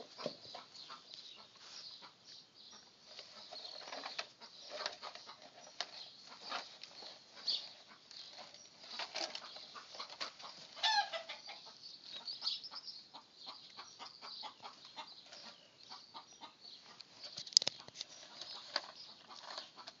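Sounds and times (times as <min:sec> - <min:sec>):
hens clucking: 0:00.0 - 0:20.0.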